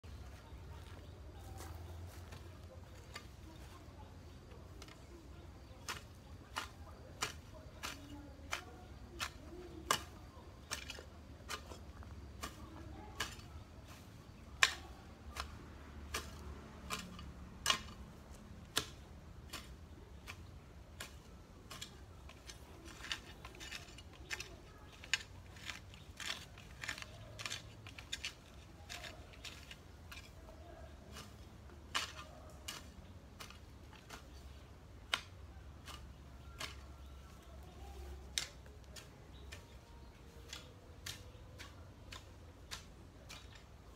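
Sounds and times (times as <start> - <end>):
sickle cutting grass: 0.1 - 43.9.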